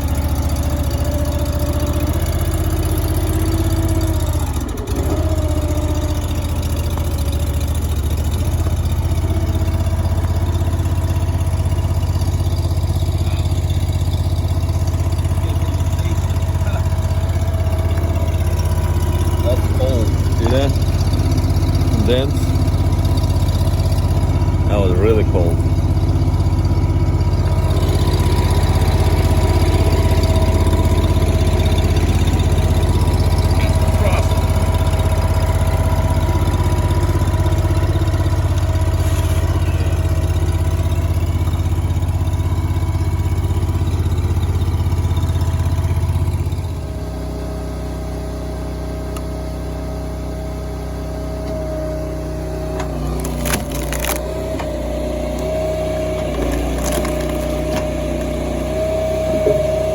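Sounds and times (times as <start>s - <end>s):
machinery engine running: 0.0s - 59.9s.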